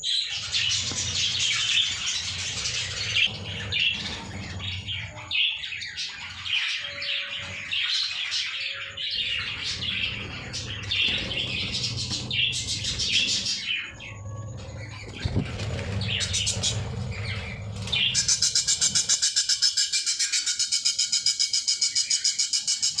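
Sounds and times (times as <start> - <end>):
budgerigars chattering and chirping: 0.0 - 23.0.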